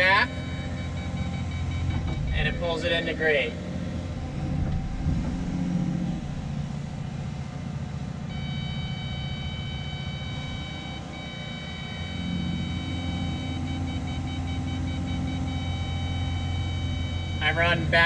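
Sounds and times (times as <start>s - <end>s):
high electronic tone: 0.0s - 7.1s, 8.0s - 18.0s
excavator engine and hydraulics: 0.0s - 18.0s.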